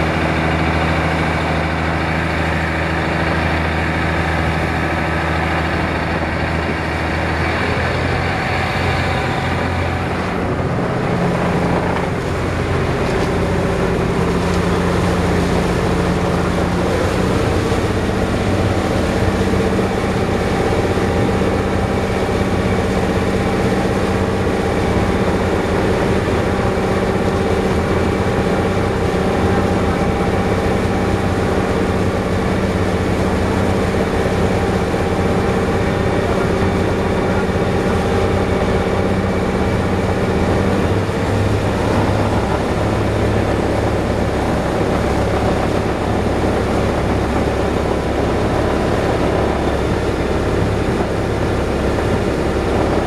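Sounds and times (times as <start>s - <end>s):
boat diesel engine running: 0.0s - 53.0s
water rushing past hull: 0.0s - 53.0s.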